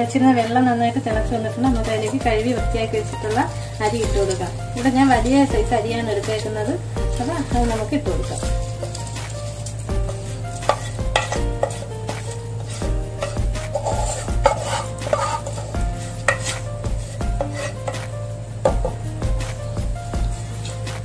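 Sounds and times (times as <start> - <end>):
background music: 0.0 - 21.0
wooden spoon scraping pan: 1.7 - 19.0, 20.0 - 21.0.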